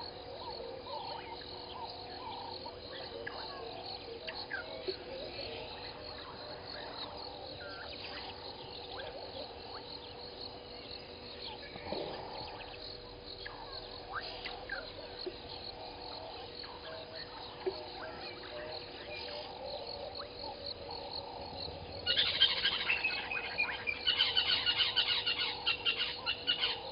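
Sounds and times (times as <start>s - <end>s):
steady hum of frogs and insects: 0.0s - 26.9s.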